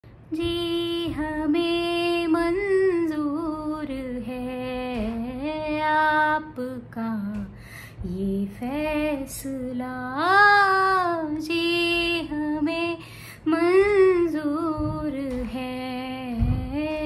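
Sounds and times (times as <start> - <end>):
woman singing unaccompanied: 0.3 - 17.0.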